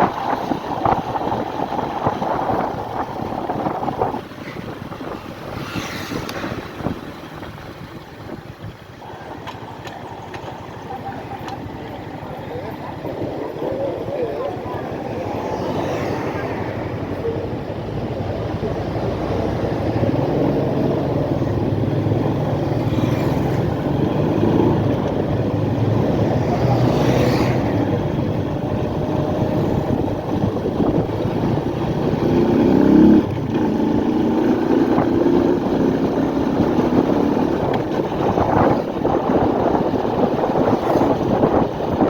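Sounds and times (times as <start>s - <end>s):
motorcycle engine running: 0.0s - 15.2s, 16.8s - 42.0s
motorcycle engine revving: 0.0s - 42.0s.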